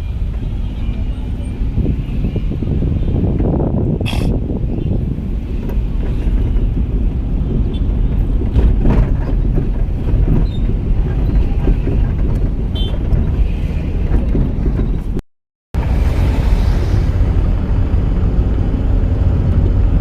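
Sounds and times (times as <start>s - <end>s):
car road and engine rumble: 0.0s - 15.2s, 15.8s - 20.0s.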